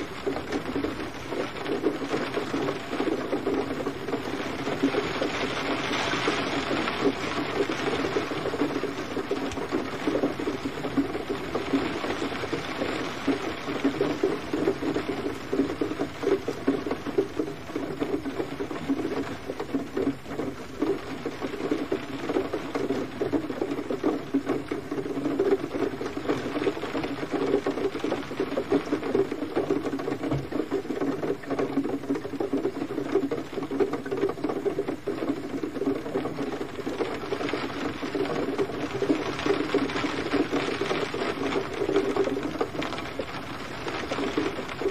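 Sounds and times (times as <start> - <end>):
gentle rain patter: 0.0 - 44.9.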